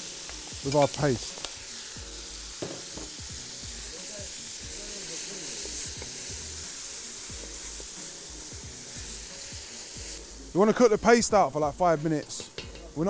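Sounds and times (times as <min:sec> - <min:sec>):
meat and paste sizzling in pot: 0:00.0 - 0:13.0.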